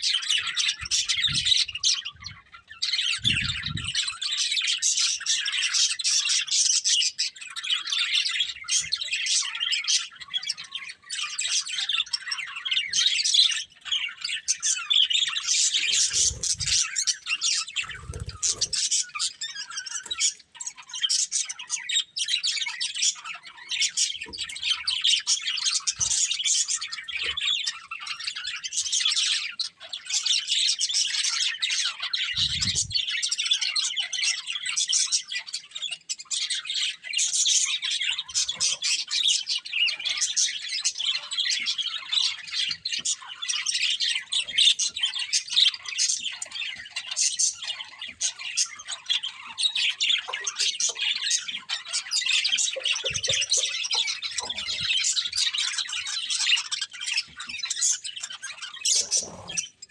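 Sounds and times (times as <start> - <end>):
budgerigars chirping and warbling: 0.0 - 59.9.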